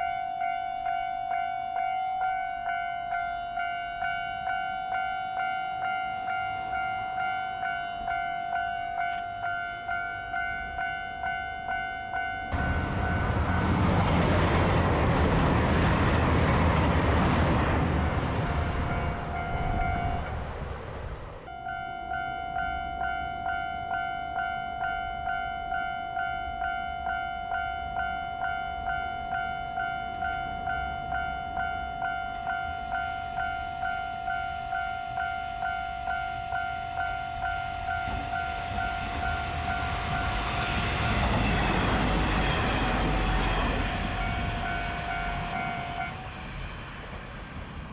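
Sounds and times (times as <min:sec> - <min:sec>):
diesel railcar passing: 0:00.0 - 0:47.9.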